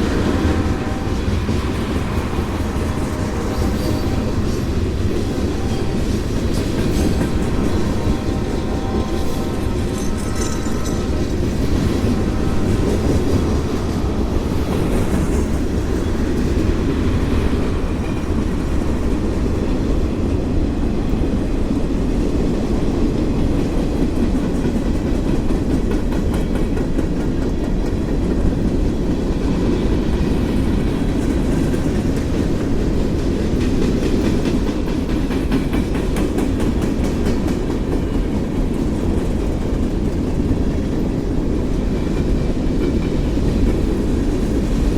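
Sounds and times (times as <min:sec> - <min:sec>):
freight train rumbling past: 0:00.0 - 0:44.9.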